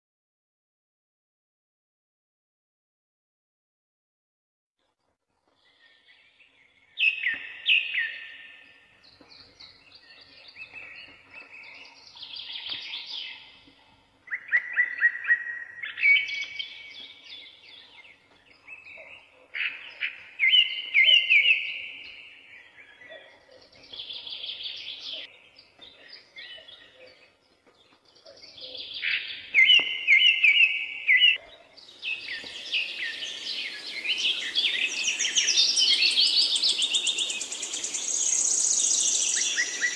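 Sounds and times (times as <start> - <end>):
songbirds chirping and trilling: 5.4 - 39.9.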